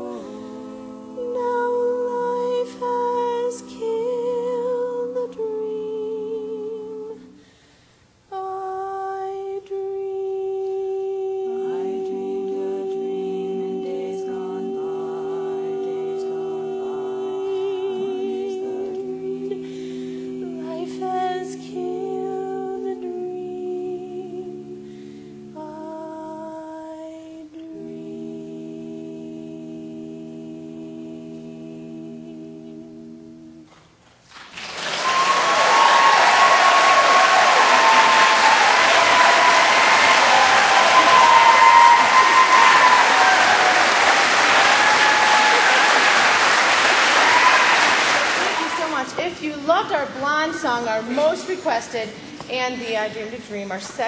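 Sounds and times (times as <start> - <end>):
women singing close harmony: 0.0 - 7.5, 8.3 - 33.7, 35.6 - 49.6.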